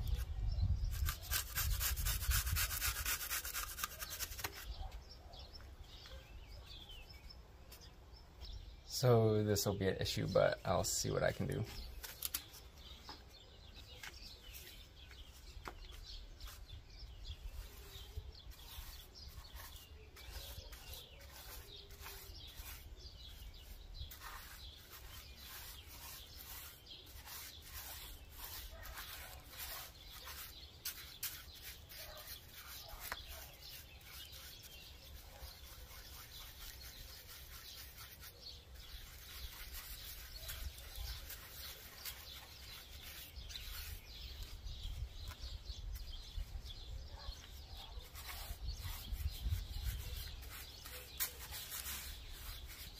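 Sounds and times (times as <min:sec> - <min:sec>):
brush scrubbing on stone: 0:00.9 - 0:04.8, 0:10.9 - 0:52.9.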